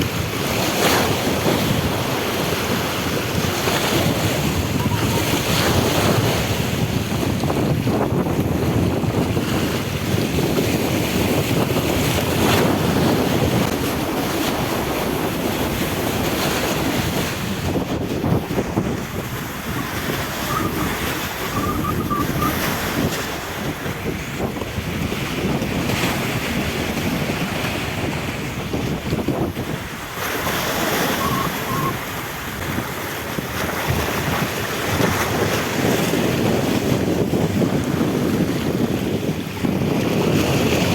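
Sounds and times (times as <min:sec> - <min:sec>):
sea water washing: 0:00.0 - 0:40.9
wind buffeting microphone: 0:00.0 - 0:40.9.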